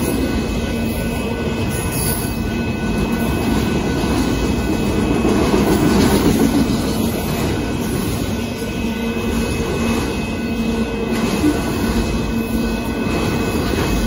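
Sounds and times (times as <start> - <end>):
freight train wheels on rail: 0.0 - 14.0.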